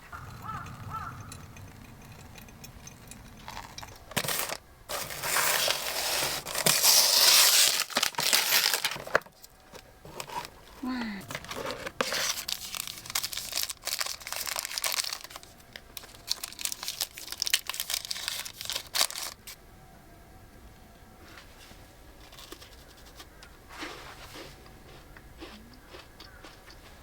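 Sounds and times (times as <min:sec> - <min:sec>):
crinkling and rustling: 0:00.0 - 0:19.6, 0:21.3 - 0:24.8.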